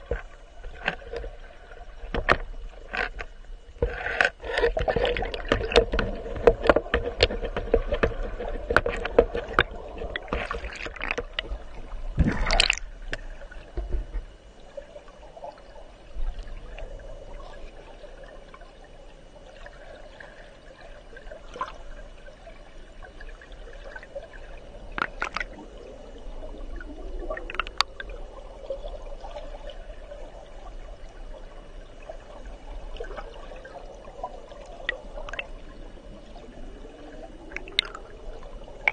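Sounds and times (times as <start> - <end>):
clicks and knocks underwater: 0.0 - 17.8, 23.1 - 38.9
scrape underwater: 0.0 - 18.8, 19.5 - 38.9
muffled underwater river rushing: 0.0 - 38.9.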